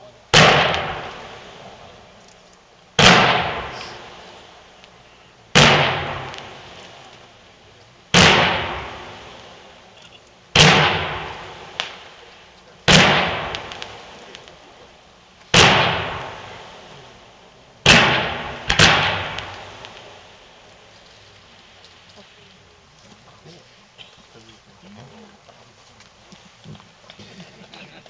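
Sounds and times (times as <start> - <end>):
firework bangs: 0.0 - 2.2, 2.9 - 24.3.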